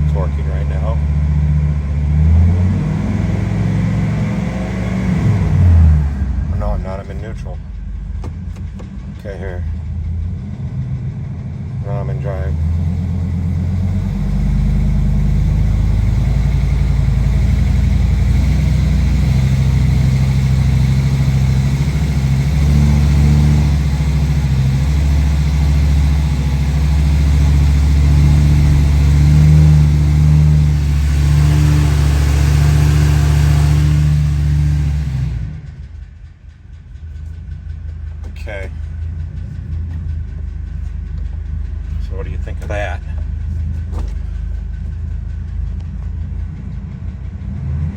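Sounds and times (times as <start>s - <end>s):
truck engine at raised revs: 0.0s - 47.9s.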